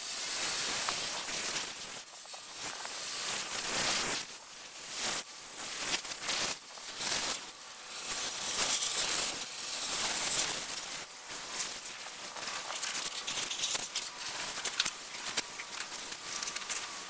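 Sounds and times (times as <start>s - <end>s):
sandblaster hissing: 0.0s - 17.0s.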